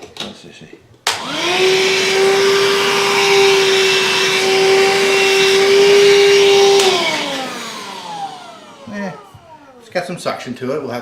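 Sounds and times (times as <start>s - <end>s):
car vacuum motor whine: 1.1s - 10.0s.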